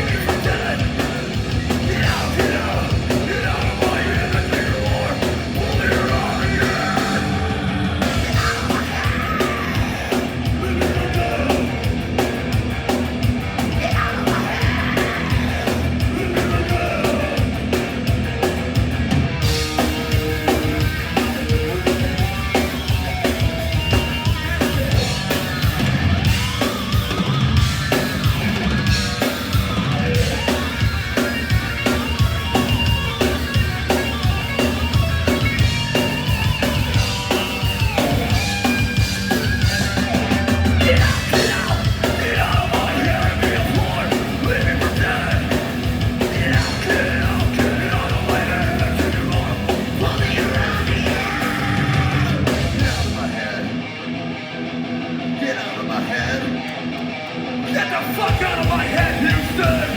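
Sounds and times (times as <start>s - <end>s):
pounding drum kit: 0.0s - 53.6s, 58.1s - 59.9s
distorted guitars: 0.0s - 59.9s
yelled vocals: 0.0s - 59.9s.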